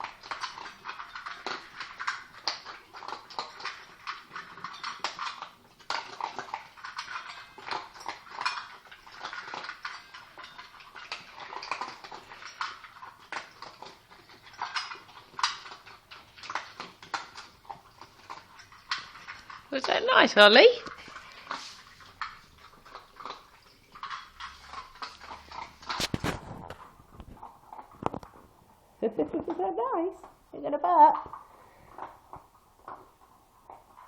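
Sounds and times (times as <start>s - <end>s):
dogs chewing and licking bowls: 0.0s - 34.0s.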